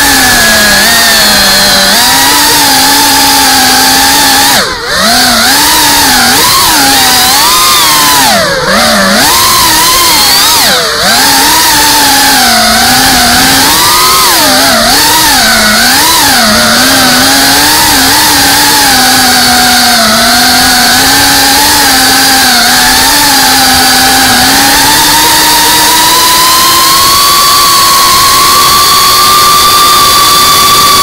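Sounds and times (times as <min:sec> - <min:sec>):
drone motors and propellers whining: 0:00.0 - 0:31.0.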